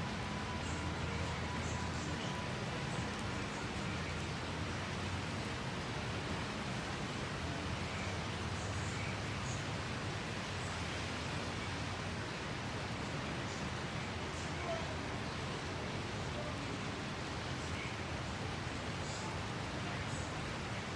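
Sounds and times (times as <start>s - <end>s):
steady rain hiss: 0.0s - 20.9s.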